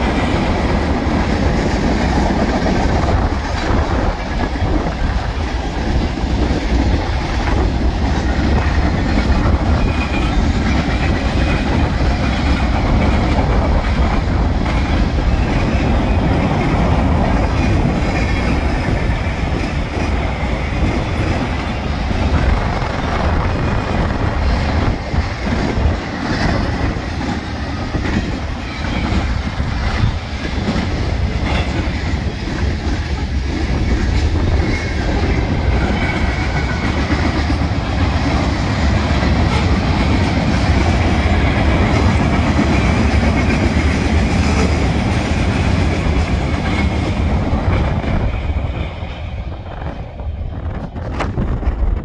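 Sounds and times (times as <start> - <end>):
freight train wheels rumbling on rail: 0.0 - 52.0
rail clicks: 0.0 - 52.0.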